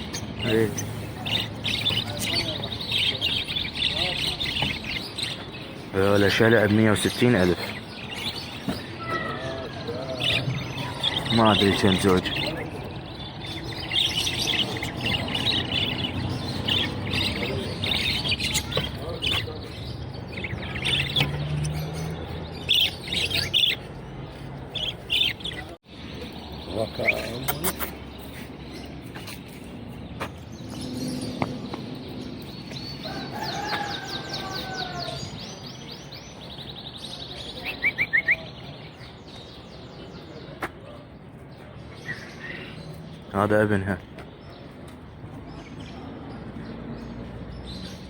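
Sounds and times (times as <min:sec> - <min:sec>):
caged birds chirping and squawking: 0:00.0 - 0:48.0.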